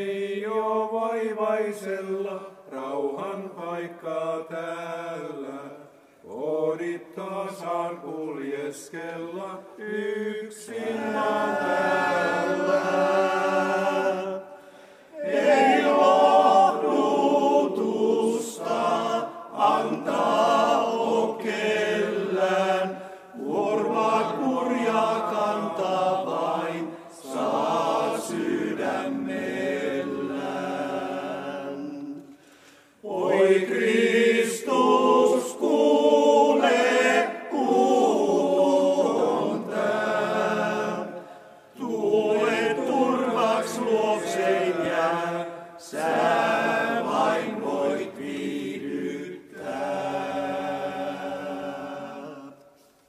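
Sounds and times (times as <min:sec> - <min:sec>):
men's choir singing a hymn: 0:00.0 - 0:32.3, 0:33.0 - 0:52.7.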